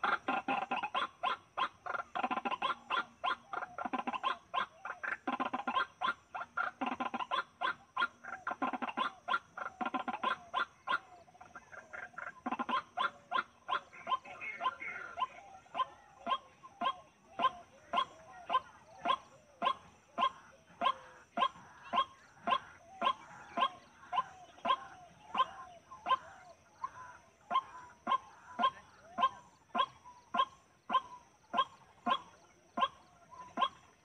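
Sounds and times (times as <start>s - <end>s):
waterhen sharp calls: 0.0s - 34.0s.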